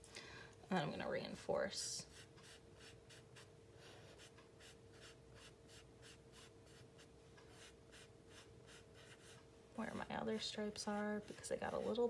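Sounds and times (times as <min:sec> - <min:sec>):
charcoal scratching on paper: 0:02.0 - 0:12.0.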